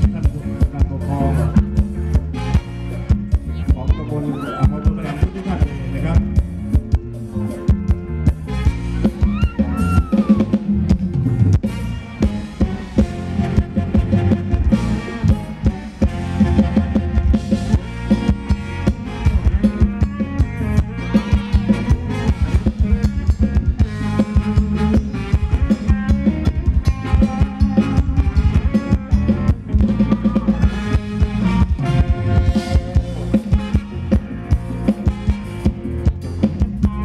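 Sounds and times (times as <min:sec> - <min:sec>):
bass drum and snare beat: 0:00.0 - 0:37.0
live band playing dance music: 0:00.0 - 0:37.0.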